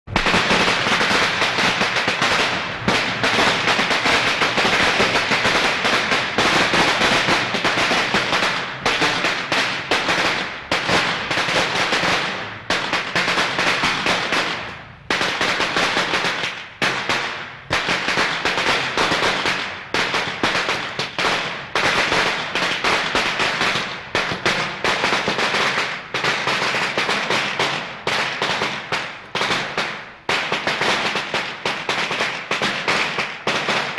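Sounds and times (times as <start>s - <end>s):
firecrackers crackling: 0.1s - 33.9s.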